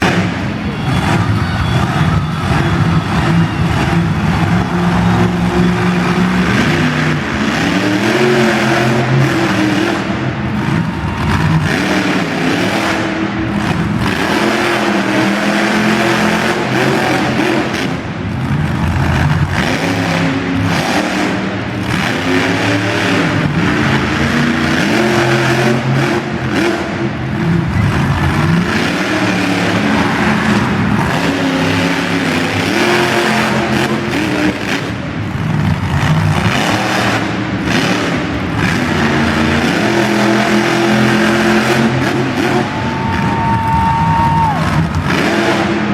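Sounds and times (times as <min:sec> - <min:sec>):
monster truck engine revving: 0:00.0 - 0:45.9.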